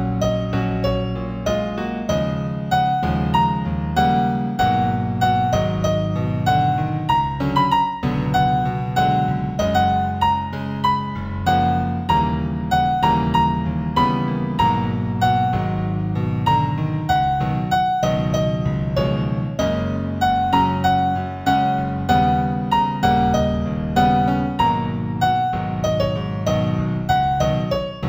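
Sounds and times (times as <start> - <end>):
keyboard melody: 0.0 - 28.0.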